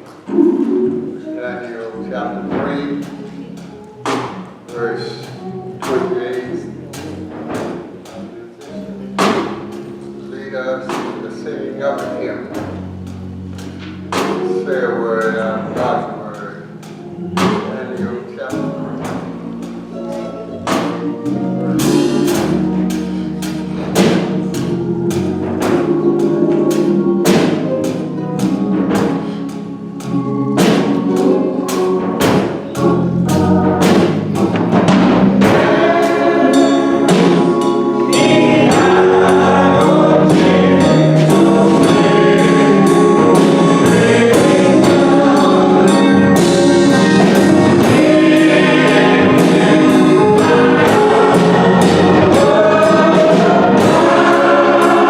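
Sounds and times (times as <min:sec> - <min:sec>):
drums beating: 0:00.0 - 0:55.0
gospel choir singing: 0:00.0 - 0:55.0.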